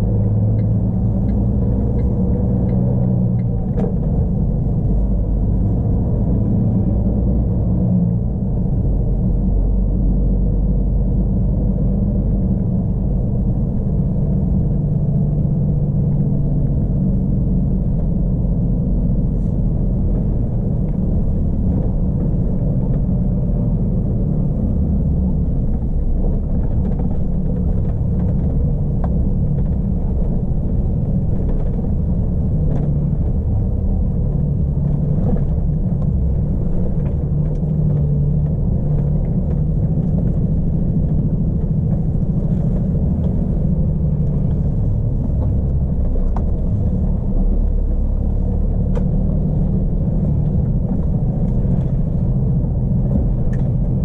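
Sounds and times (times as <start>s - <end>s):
diesel engine humming: 0.0s - 54.0s
road noise: 0.0s - 54.0s.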